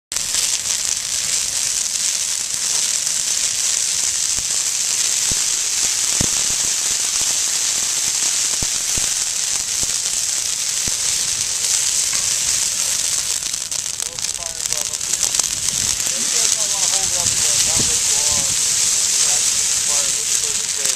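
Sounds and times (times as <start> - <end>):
brush fire crackling: 0.1 - 20.9
fire popping: 0.1 - 20.9.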